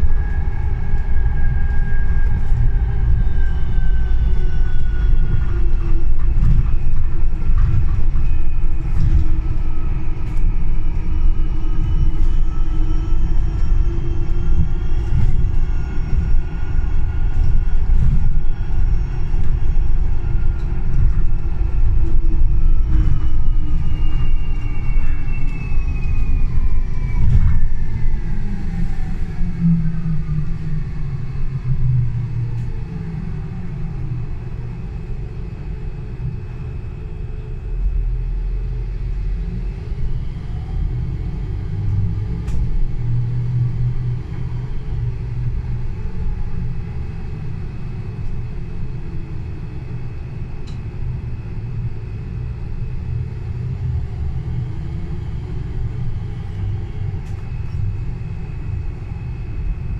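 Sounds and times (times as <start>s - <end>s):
bus low rumble: 0.0s - 59.9s.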